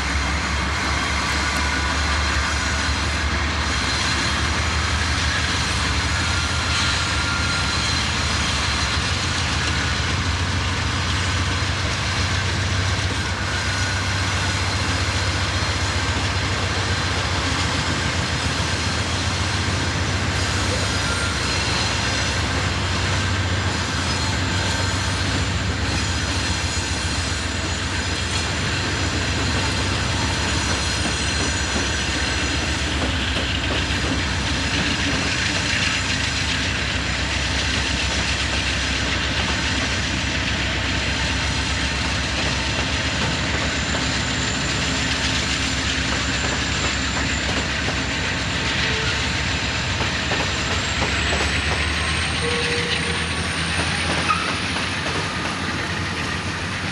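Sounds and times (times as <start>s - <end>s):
high-pitched wheel on rail tones: 0.0s - 56.9s
train cars rumbling on rails: 0.0s - 56.9s.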